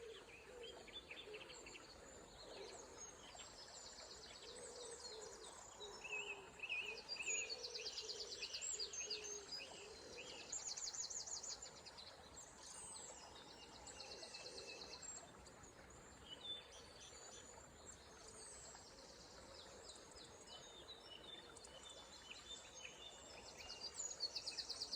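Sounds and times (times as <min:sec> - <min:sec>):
songbirds singing: 0:00.0 - 0:24.9.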